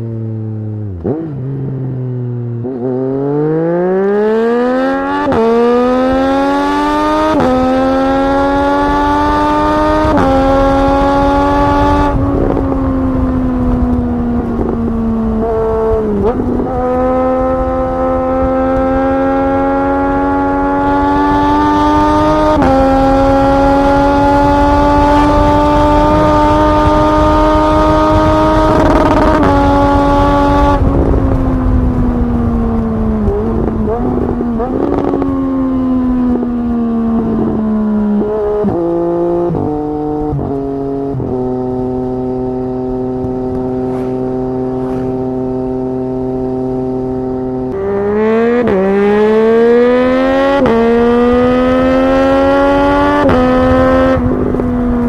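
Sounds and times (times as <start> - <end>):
wind rush: 4.8 - 38.8, 39.5 - 55.0
motorcycle engine pulling hard: 4.8 - 55.0.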